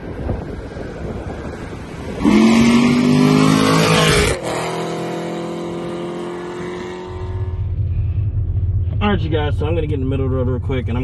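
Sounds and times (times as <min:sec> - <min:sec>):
car engine revving: 0:00.1 - 0:11.0.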